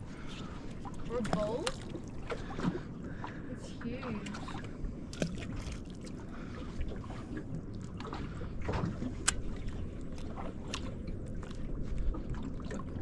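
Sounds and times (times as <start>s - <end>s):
water washing against hull: 0.0s - 13.0s.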